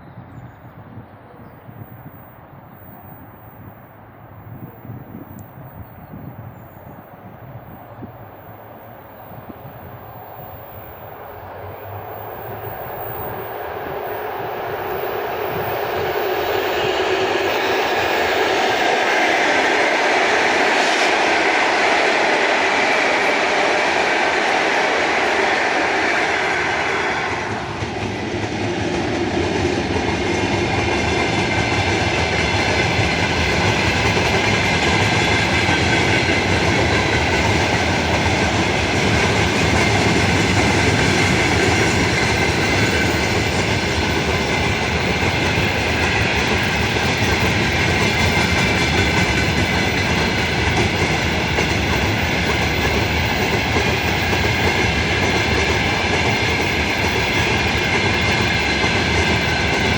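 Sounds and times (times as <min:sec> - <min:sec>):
freight train wheels on rails: 0:00.0 - 0:59.9.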